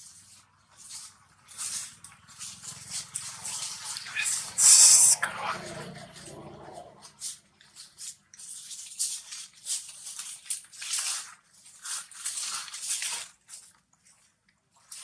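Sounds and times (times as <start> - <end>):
rustling and crackling: 0.0 - 15.0.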